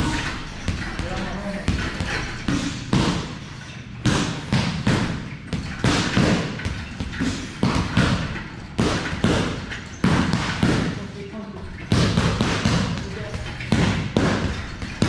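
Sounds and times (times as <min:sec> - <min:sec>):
boxing gloves punching bag: 0:00.0 - 0:15.0.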